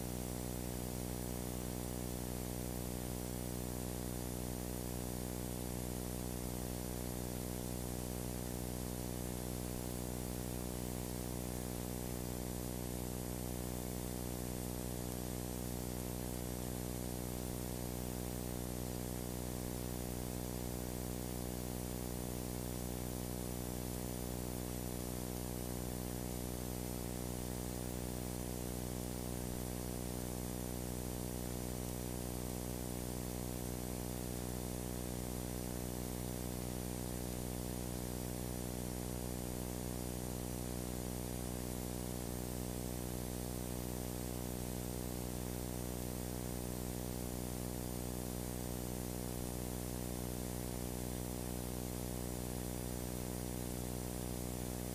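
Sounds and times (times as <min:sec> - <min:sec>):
mains hum: 0:00.0 - 0:54.9.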